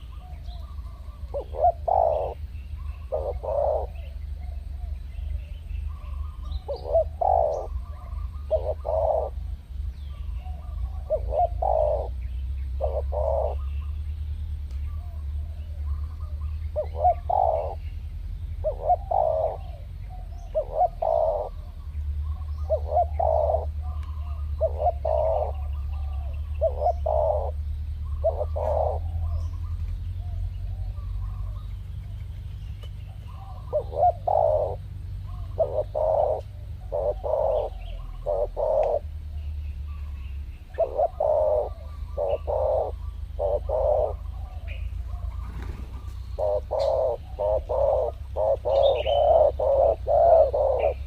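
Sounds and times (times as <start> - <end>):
dove cooing: 0.0 - 14.1, 14.8 - 51.0
steady low rumble: 0.0 - 51.0.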